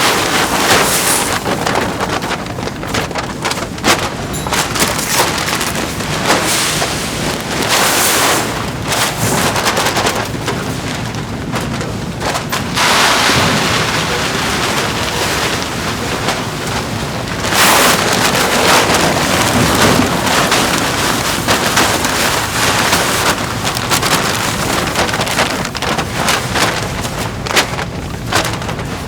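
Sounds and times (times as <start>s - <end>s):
factory machinery hissing and clicking: 0.0s - 29.0s.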